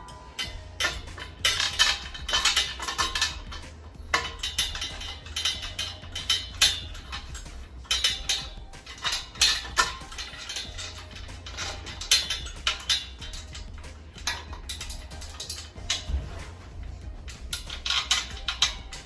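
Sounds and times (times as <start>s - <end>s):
metal rack parts clinking: 0.0s - 19.0s.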